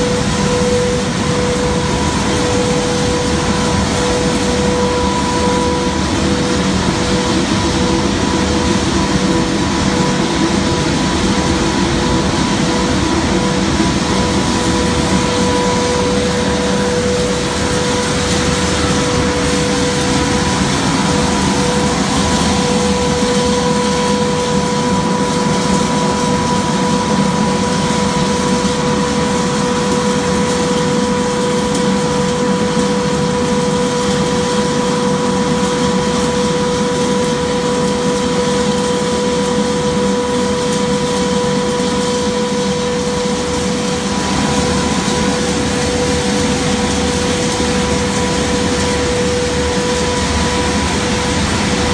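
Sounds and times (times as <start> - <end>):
machine noise with whine: 0.0 - 51.9.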